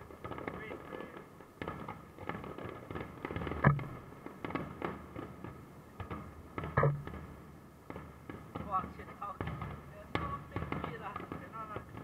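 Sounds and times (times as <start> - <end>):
fireworks popping and crackling: 0.0 - 12.0
loud fireworks bangs: 0.0 - 12.0.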